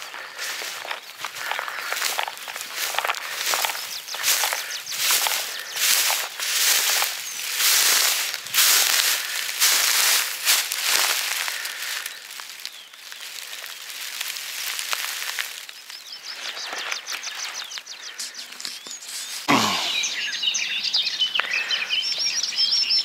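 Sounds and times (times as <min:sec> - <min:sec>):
rustling noise: 0:00.0 - 0:19.5
small birds chirping: 0:00.0 - 0:23.0.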